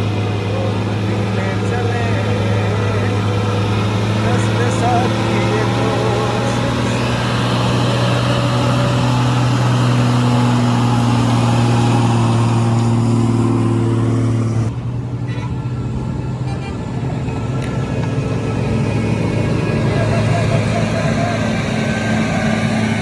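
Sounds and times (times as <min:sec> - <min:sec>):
heavy truck engine running: 0:00.0 - 0:23.0.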